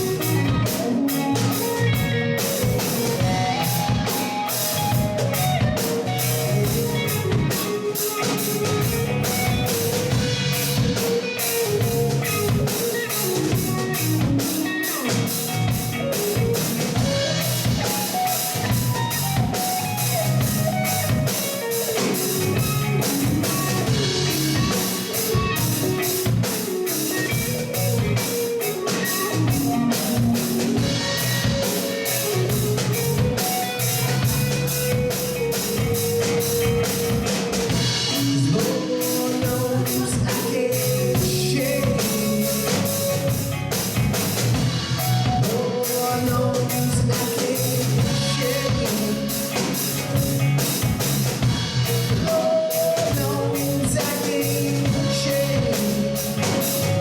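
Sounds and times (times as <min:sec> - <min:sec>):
electric guitar lead line: 0:00.0 - 0:57.0
live rock band playing: 0:00.0 - 0:57.0.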